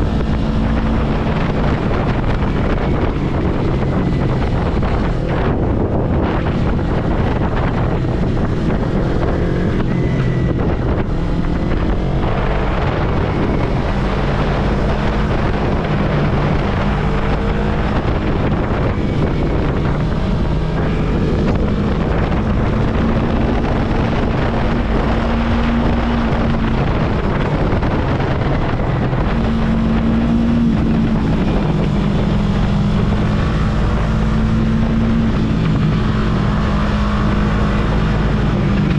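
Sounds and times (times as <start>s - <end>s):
motorcycle engine running: 0.0s - 38.9s
wind rush over microphone: 0.0s - 38.9s.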